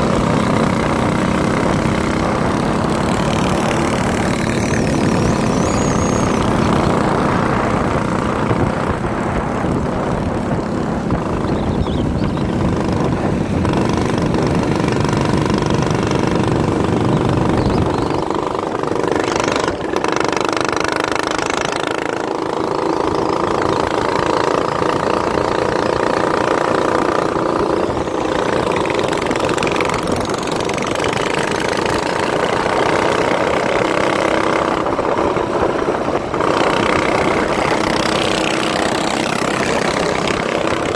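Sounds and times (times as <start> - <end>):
minibike engine running: 0.0 - 40.9.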